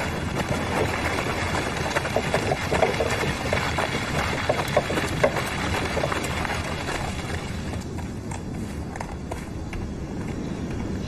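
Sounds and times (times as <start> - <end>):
cart wheels crunching snow: 0.0 - 10.9
hooves crunching on snow: 0.0 - 11.0.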